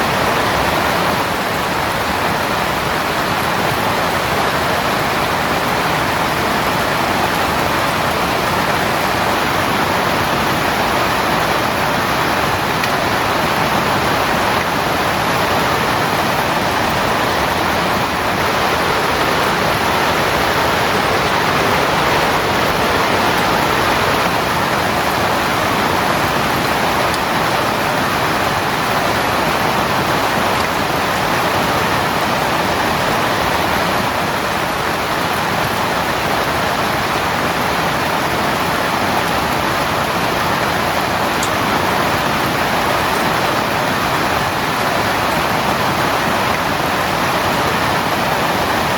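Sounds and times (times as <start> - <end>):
heavy rain on a tent: 0.0 - 48.9.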